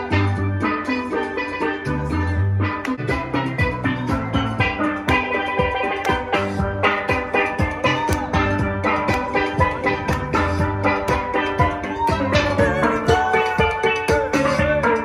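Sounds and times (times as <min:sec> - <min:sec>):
steel pan band playing: 0:00.0 - 0:15.0.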